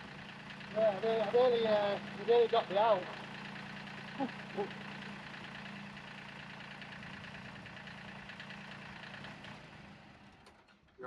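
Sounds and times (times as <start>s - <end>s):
tractor engine idling: 0.0s - 10.4s.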